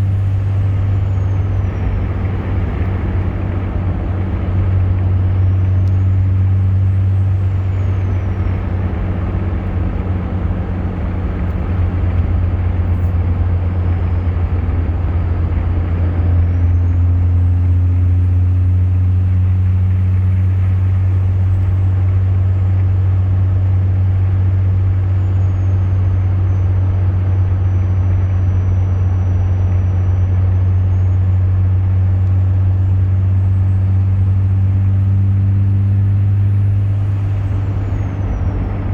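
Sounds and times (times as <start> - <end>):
diesel engine droning: 0.0 - 38.9
turbocharger whistling: 0.0 - 38.9.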